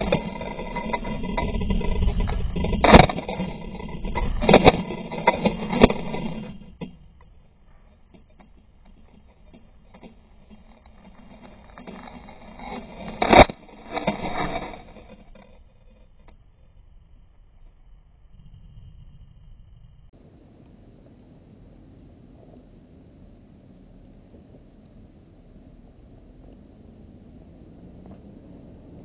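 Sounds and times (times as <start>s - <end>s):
quadcopter rotor whirr: 0.0s - 29.0s.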